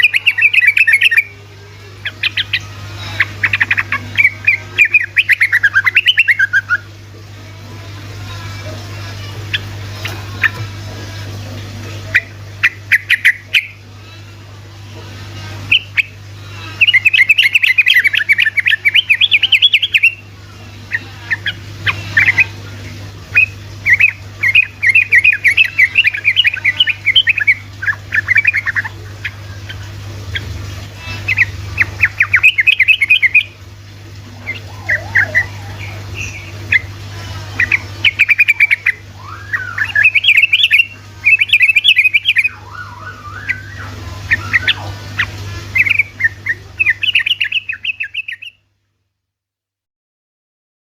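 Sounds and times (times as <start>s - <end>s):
bulbul singing bubbling song: 0.0s - 48.6s
steady low hum: 0.0s - 48.9s.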